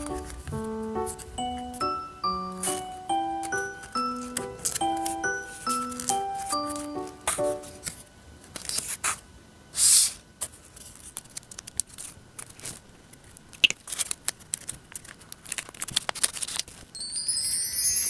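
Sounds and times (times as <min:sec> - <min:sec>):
paper crinkling and rustling: 0:00.0 - 0:01.8, 0:02.6 - 0:09.2, 0:10.4 - 0:17.0.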